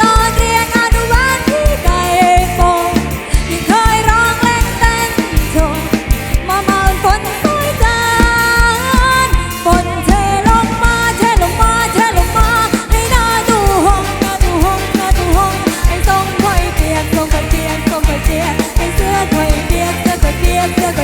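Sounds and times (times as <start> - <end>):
live band music: 0.0 - 21.0
person singing: 0.0 - 21.0
pounding drum beat: 0.0 - 21.0.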